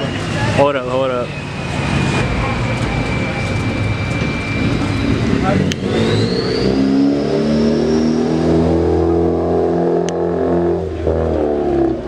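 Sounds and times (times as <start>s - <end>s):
car engine and exhaust droning: 0.0s - 12.0s.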